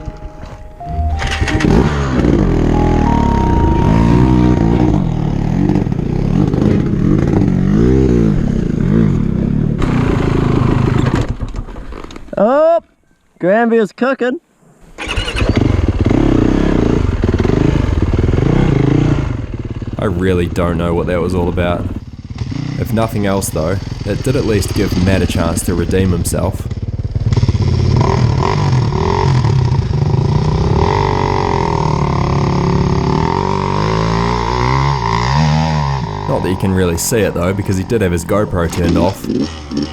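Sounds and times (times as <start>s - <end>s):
dirt bike engine revving: 3.9s - 11.4s, 15.0s - 39.9s.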